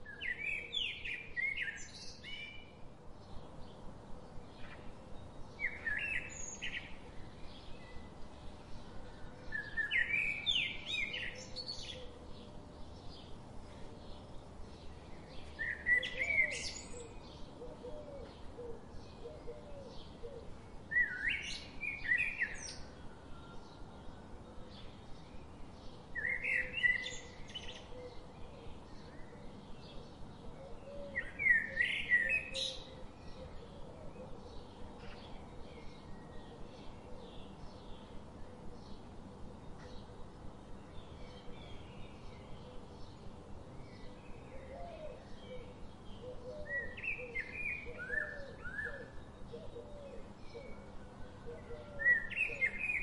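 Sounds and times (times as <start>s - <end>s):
faint steady background noise: 0.0s - 53.0s
steady background hiss: 0.0s - 53.0s.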